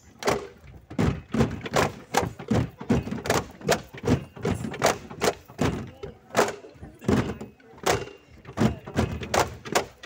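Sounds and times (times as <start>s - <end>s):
bamboo poles clacking: 0.0s - 10.0s.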